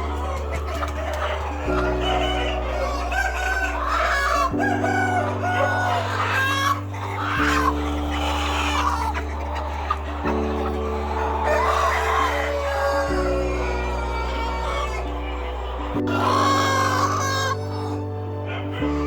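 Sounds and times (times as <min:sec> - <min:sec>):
chickens clucking and crowing: 0:00.0 - 0:19.0
music with low held notes: 0:00.0 - 0:19.0.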